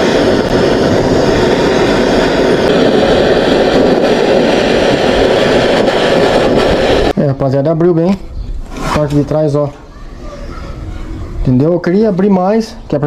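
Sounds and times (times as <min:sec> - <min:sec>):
blowtorch flame rushing: 0:00.0 - 0:07.2, 0:08.6 - 0:12.2.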